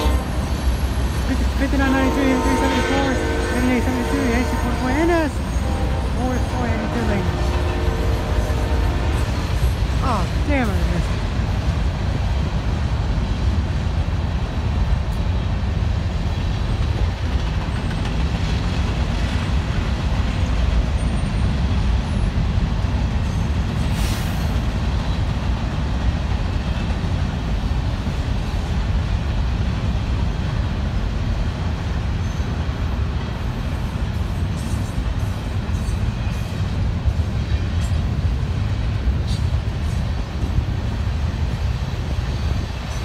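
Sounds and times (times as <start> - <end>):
freight train rumbling past: 0.0 - 43.0.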